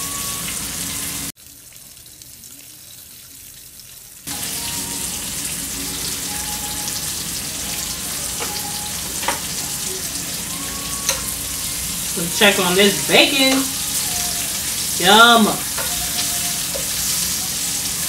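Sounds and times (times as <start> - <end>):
bacon sizzling in a frying pan: 0.0 - 18.0.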